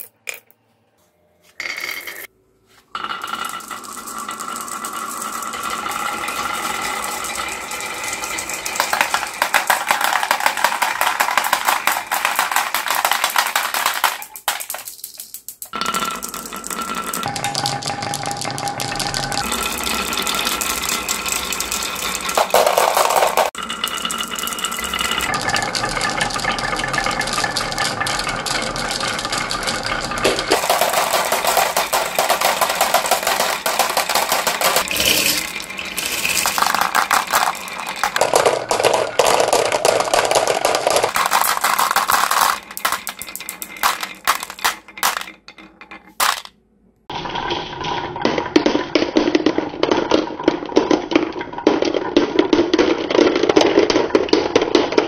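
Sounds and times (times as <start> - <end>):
marbles rattling on wooden track: 3.0 - 46.5, 48.2 - 55.0.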